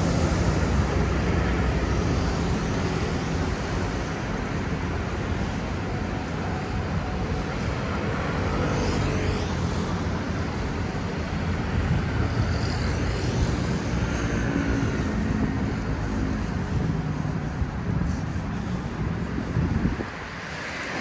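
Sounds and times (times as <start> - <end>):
cars and scooters passing: 0.0 - 21.0.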